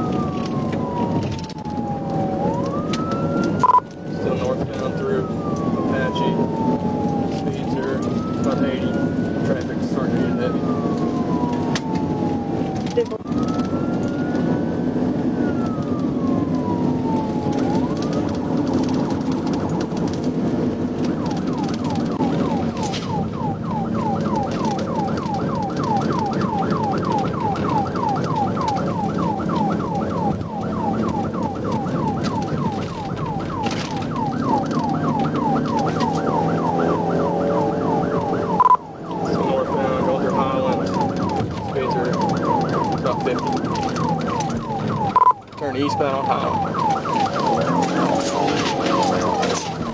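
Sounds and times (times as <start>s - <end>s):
car engine rumble: 0.0s - 49.9s
police siren wailing and yelping: 0.0s - 49.9s
road noise: 0.0s - 49.9s.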